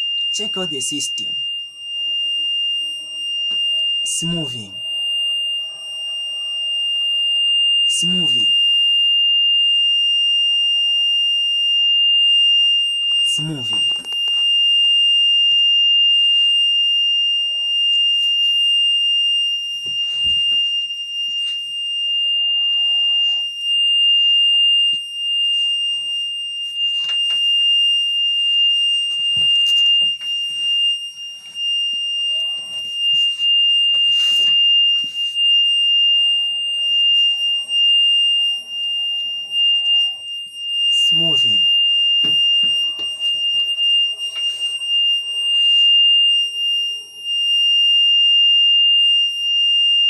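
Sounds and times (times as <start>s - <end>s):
high-pitched warning buzzer: 0.0s - 50.0s.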